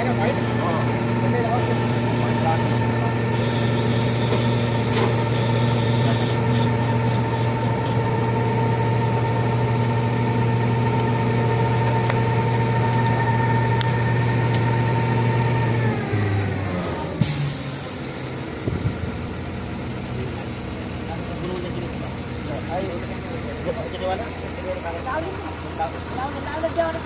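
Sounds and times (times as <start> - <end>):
engine running and winding down: 0.0 - 27.0.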